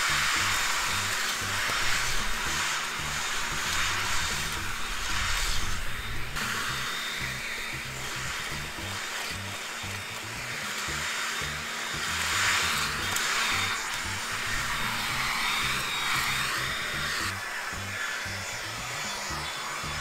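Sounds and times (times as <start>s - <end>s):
background music with bass line: 0.0s - 20.0s
leaf blower blowing air: 0.0s - 20.0s.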